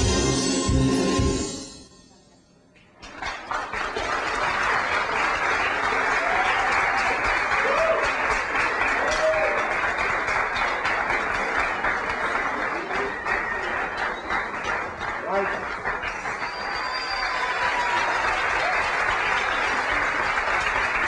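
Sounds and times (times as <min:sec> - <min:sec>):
audience applauding: 0:03.0 - 0:21.0.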